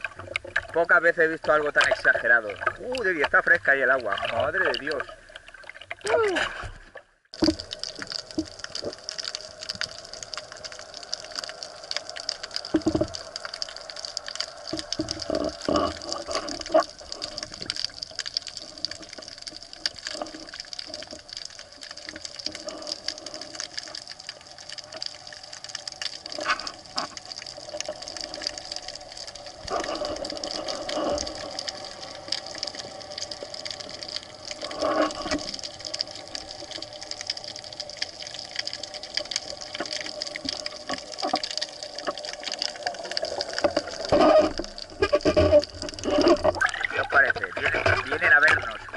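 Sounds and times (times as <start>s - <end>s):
underwater hiss with crackling clicks: 7.4s - 48.9s.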